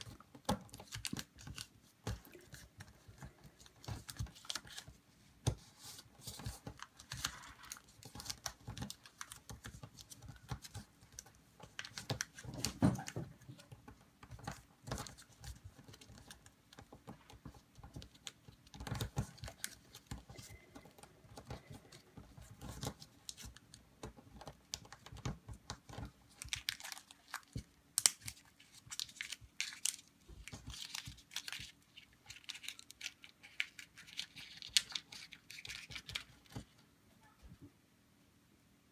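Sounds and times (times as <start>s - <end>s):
paper crinkling and rustling: 0.0s - 36.8s.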